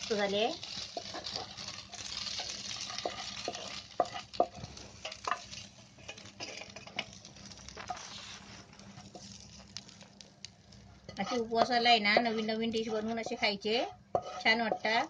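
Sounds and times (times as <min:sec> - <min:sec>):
spatula scraping a pan: 0:00.0 - 0:09.9, 0:11.1 - 0:15.0
light sizzle: 0:00.0 - 0:15.0.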